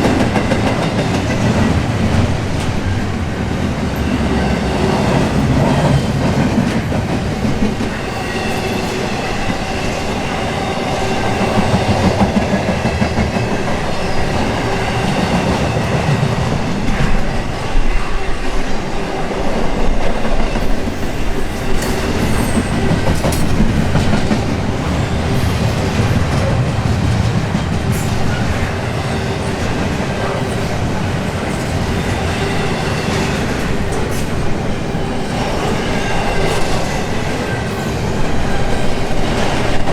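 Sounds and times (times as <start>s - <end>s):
freight train rumble: 0.0s - 39.9s.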